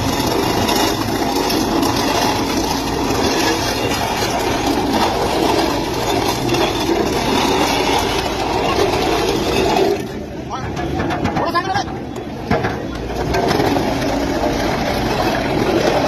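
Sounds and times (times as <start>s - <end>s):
heavy machinery rumbling clatter: 0.0s - 16.0s.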